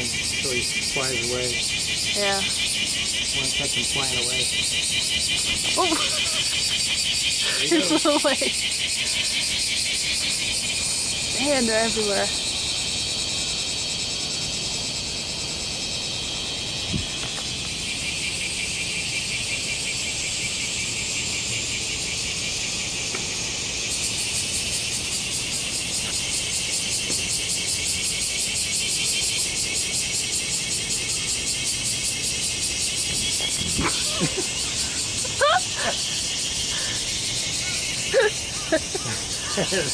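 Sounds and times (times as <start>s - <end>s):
cicadas buzzing: 0.0s - 39.9s
pulsing cicada call: 0.0s - 39.9s.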